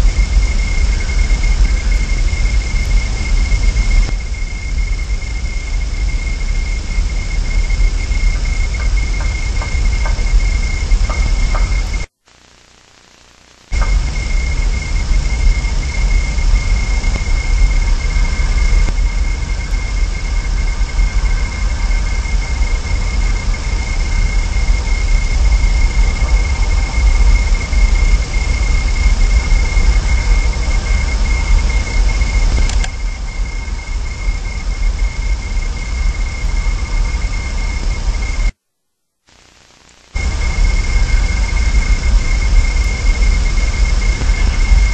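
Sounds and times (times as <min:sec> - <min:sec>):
high-pitched whine: 0:00.0 - 0:38.6, 0:39.3 - 0:44.9
low rumble and hiss: 0:00.0 - 0:38.6, 0:39.4 - 0:44.9.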